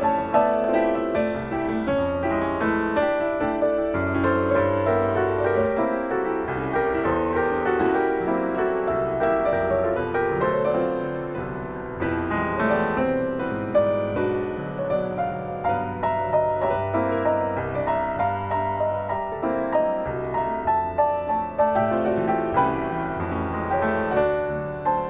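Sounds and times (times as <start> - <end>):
solo piano piece: 0.0 - 25.0.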